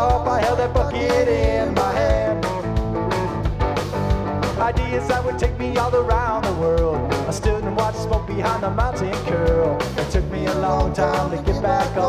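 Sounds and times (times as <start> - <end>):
bass guitar: 0.0 - 12.0
drum kit: 0.0 - 12.0
electric guitar lead: 0.0 - 12.0.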